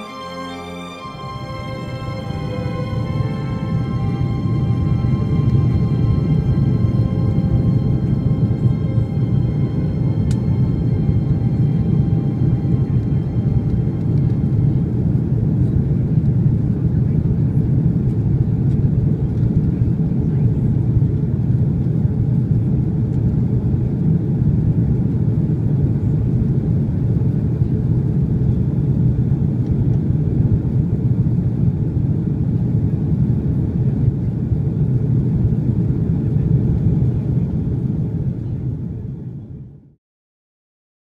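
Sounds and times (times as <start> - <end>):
airliner cabin engine rumble: 2.2 - 39.9.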